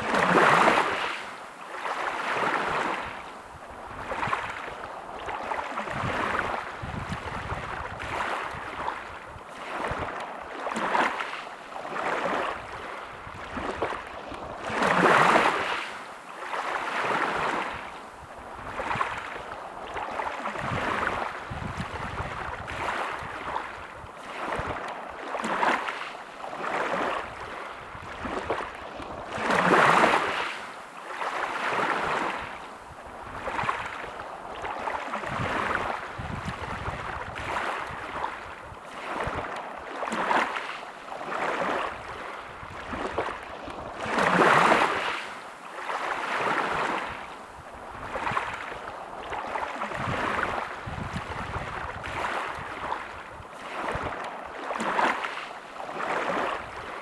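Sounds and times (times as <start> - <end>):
bigger waves breaking: 0.0 - 57.0
small waves washing on shore: 0.0 - 57.0.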